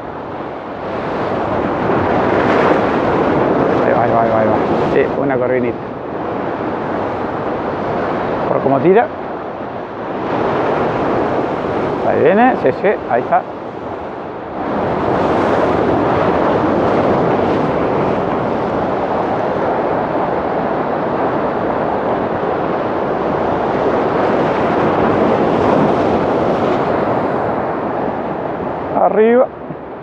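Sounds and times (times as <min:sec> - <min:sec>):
wind: 0:00.0 - 0:30.0.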